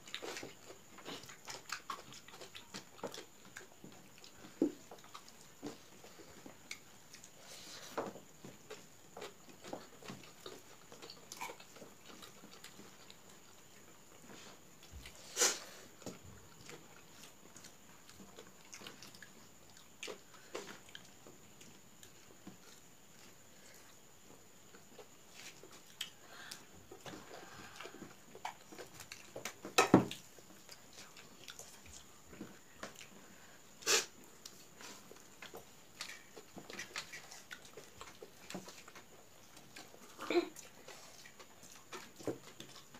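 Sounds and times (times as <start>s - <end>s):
chewing: 0.0s - 42.9s.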